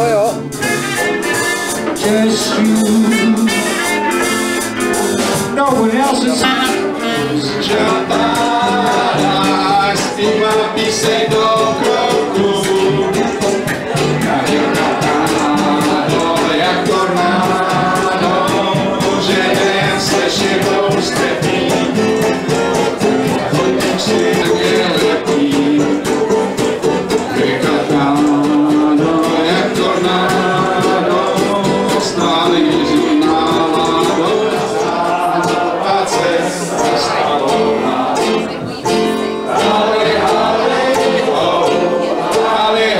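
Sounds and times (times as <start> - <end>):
man singing: 0.0 - 4.4, 5.2 - 42.9
guitar strummed rhythmically: 0.0 - 42.9.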